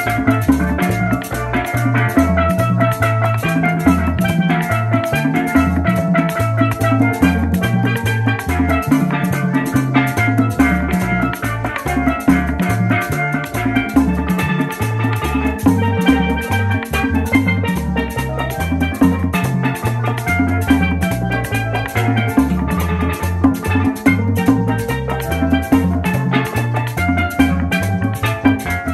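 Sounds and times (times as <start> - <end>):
upbeat tropical latin music: 0.0 - 28.9.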